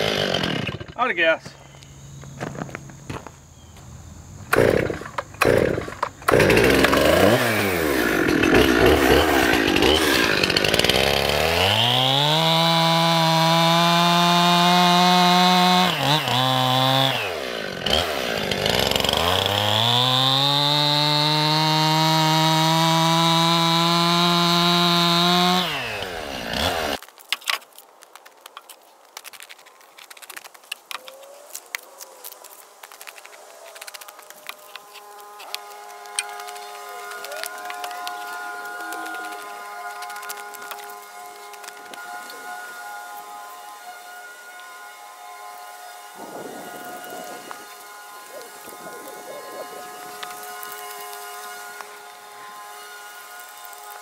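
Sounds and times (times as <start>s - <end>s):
chainsaw cutting log: 0.0s - 1.2s, 4.4s - 54.0s.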